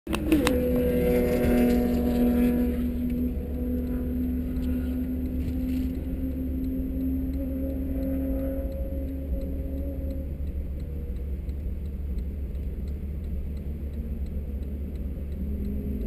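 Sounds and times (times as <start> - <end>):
car engine idling: 0.1 - 16.0.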